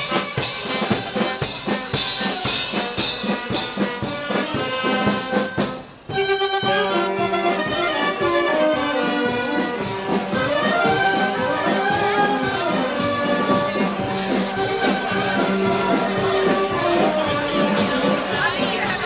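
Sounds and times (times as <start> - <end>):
wind band playing a tune: 0.0 - 19.0.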